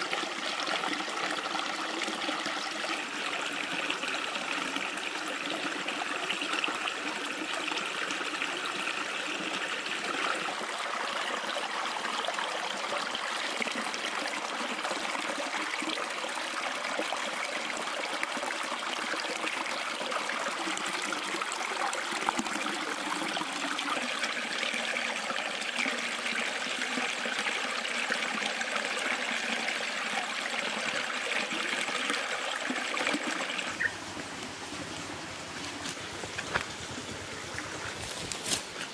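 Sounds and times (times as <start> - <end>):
stream splashing over rocks: 0.0 - 38.9.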